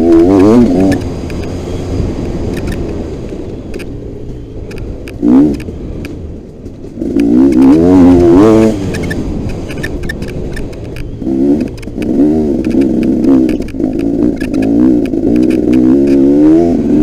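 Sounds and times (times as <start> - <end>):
motocross bike engine revving: 0.0 - 3.1, 5.0 - 5.8, 6.8 - 17.0
clicks: 0.4 - 1.6, 2.2 - 7.7, 8.8 - 16.2.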